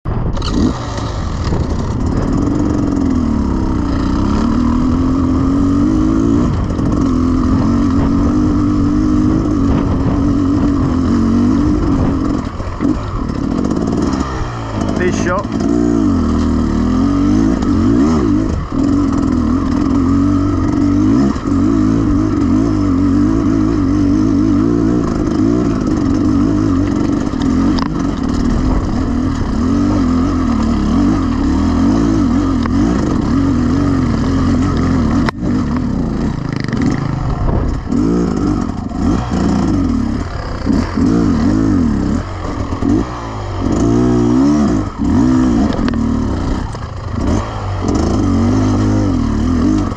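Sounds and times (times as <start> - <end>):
motorcycle engine revving: 0.1 - 49.9.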